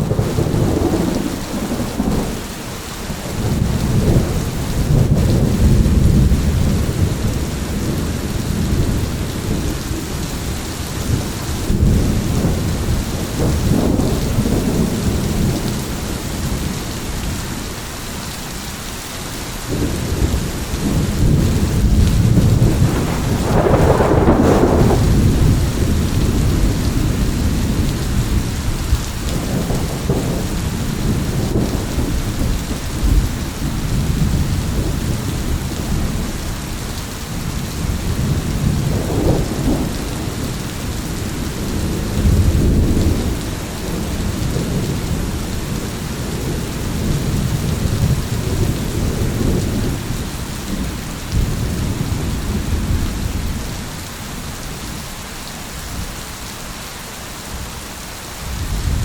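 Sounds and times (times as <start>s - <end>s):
rolling thunder: 0.0s - 17.7s, 19.7s - 55.0s, 58.4s - 59.0s
heavy rain: 0.0s - 59.0s.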